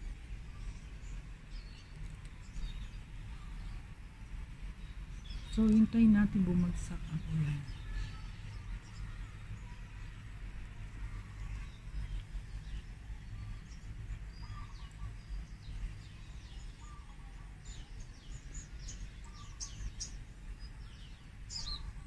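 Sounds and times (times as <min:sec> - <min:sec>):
steady low rumble: 0:00.0 - 0:22.0
small birds chirping: 0:00.3 - 0:10.1, 0:11.1 - 0:22.0.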